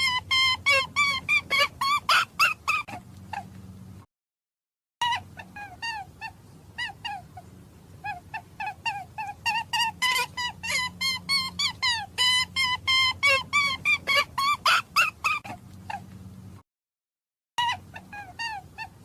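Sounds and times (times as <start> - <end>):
small animal squeaking calls: 0.0 - 3.5, 5.0 - 16.1, 17.6 - 19.0.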